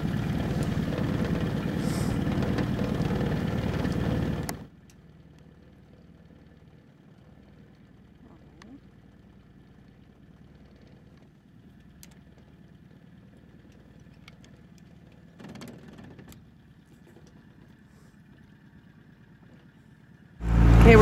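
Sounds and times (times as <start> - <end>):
boat motor idling: 0.0 - 21.0.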